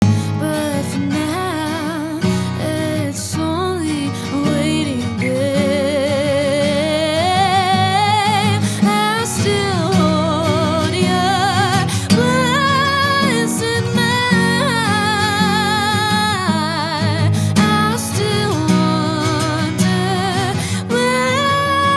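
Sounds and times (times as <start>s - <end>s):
guitar accompaniment: 0.0s - 21.9s
woman singing with vibrato: 0.3s - 21.9s.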